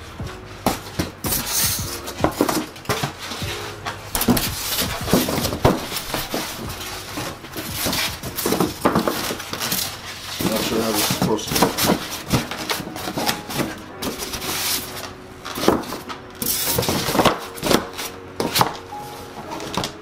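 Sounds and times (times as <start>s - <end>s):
foam rubbing against cardboard: 1.2s - 19.2s.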